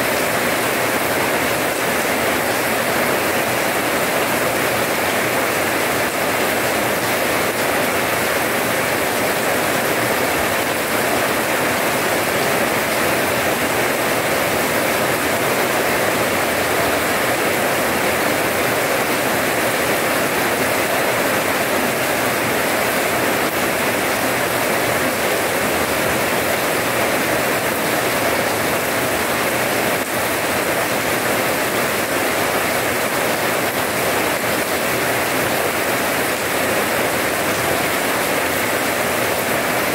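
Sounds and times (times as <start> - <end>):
rain splashing on paving: 0.0 - 39.9.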